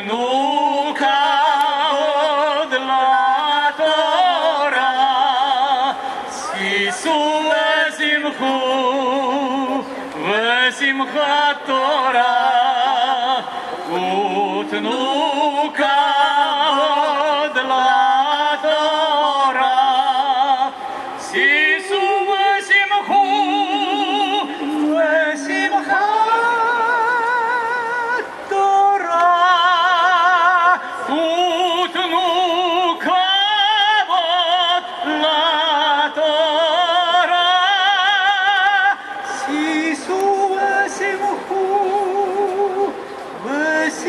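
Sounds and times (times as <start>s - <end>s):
men and women singing: 0.0s - 44.0s.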